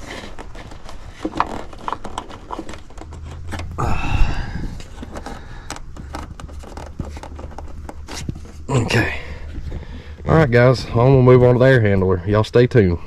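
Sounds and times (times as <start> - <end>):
light clicks and knocks: 0.0 - 11.6
scraping rustle: 0.0 - 12.1.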